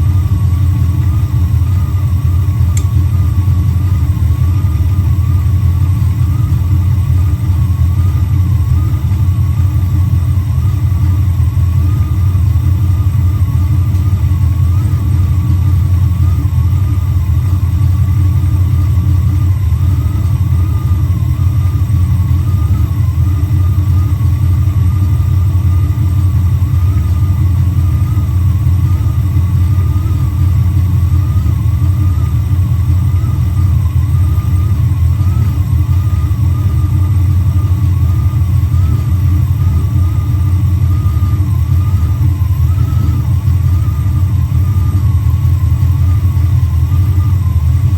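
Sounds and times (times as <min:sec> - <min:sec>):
engine idling: 0:00.0 - 0:47.9
thin wavering whine: 0:00.0 - 0:47.9.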